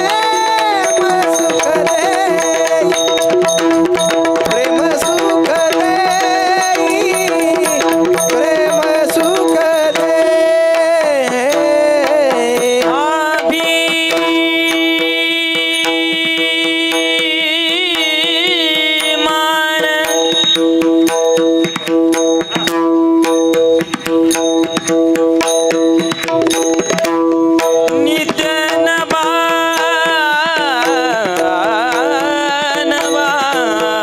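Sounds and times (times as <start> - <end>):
drumming: 0.0 - 34.0
high wavering melody: 0.0 - 34.0.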